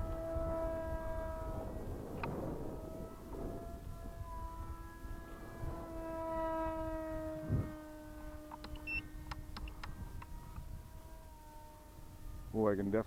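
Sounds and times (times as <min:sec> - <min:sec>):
model plane motor whine: 0:00.0 - 0:13.0
wind rumble on microphone: 0:00.0 - 0:13.0.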